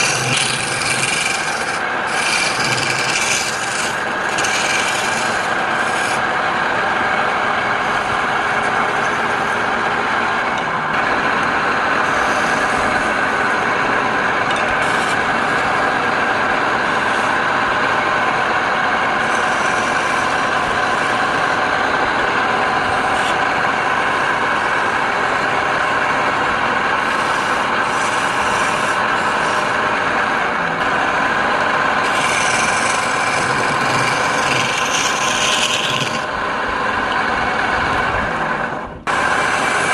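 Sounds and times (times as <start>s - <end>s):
turning tool rasping on wood: 0.0s - 37.6s, 39.1s - 39.9s
wood lathe humming: 0.0s - 39.9s.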